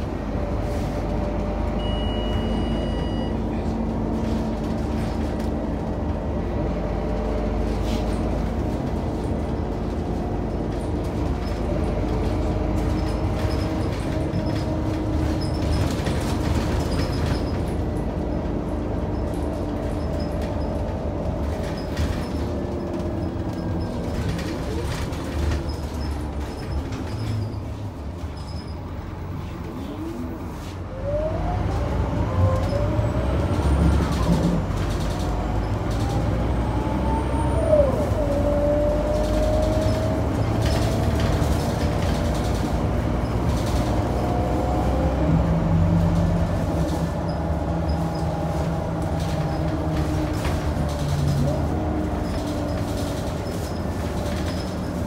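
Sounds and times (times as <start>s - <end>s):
diesel bus engine pulling away: 0.0s - 55.0s.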